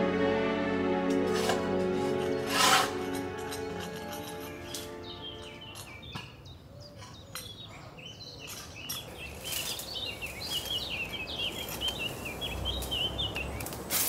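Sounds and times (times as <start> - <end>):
songbird chirping: 0.0 - 13.9
outdoor background noise: 0.0 - 14.0.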